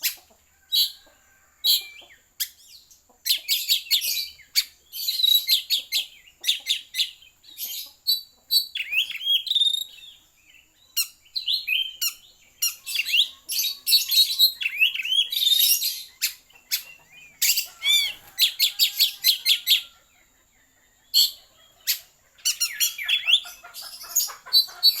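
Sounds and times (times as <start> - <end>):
songbird chirping and whistling: 0.0 - 25.0.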